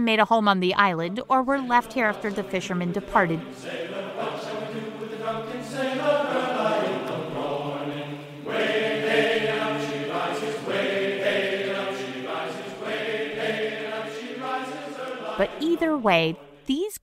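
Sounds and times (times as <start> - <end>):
choral chanting voices: 1.4 - 16.8.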